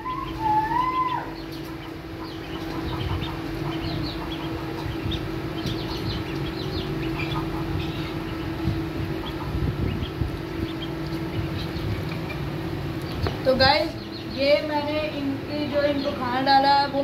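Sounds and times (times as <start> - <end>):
chicken calling: 0.0 - 16.6
ducklings peeping: 0.0 - 17.0
low steady hum: 0.0 - 17.0.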